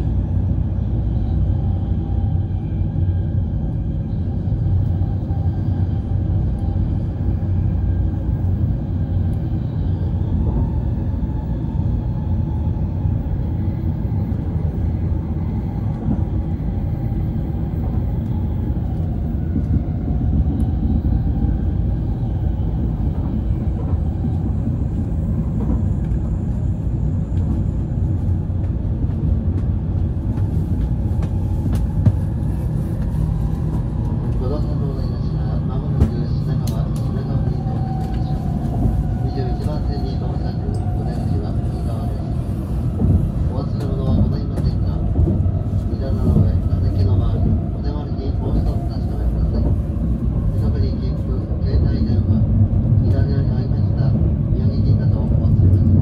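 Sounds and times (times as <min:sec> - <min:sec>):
train rumble inside car: 0:00.0 - 0:56.0.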